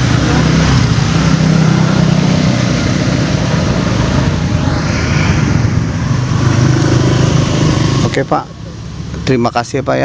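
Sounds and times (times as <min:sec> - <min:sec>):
engine low hum: 0:00.0 - 0:10.0
loud even rush: 0:00.3 - 0:09.0.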